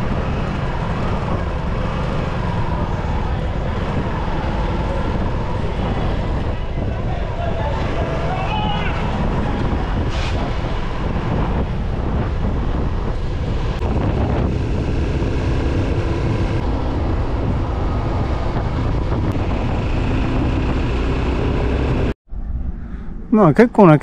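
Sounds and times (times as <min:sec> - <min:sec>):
motorcycle engine drone: 0:00.0 - 0:23.4
wind noise on microphone: 0:00.0 - 0:23.4.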